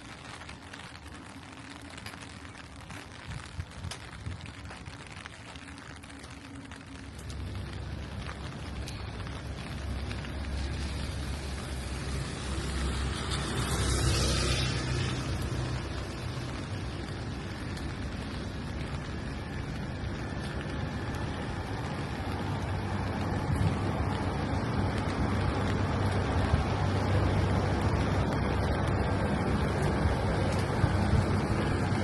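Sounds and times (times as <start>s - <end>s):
rain falling on a street: 0.0s - 32.0s
vehicle passing on wet road: 0.0s - 32.0s.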